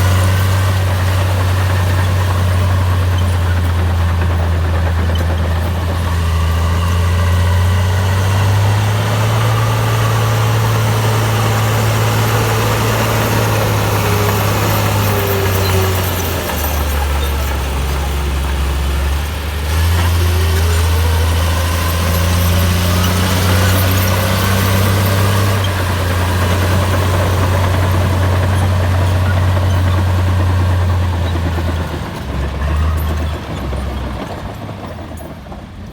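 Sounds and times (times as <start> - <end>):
bulldozer diesel engine: 0.0 - 35.9.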